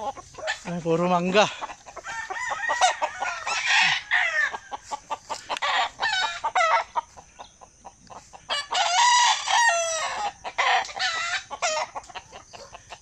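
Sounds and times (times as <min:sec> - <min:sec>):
chicken clucking: 0:00.0 - 0:13.0
roosters crowing: 0:00.0 - 0:13.0.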